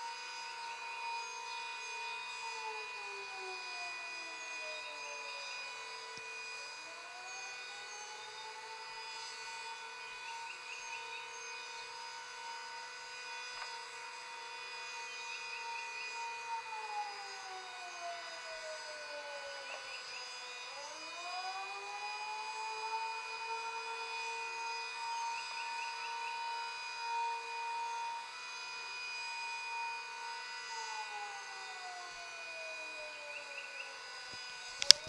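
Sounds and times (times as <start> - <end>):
steady low siren tone: 0.0 - 35.0
warning siren wailing: 0.0 - 35.0.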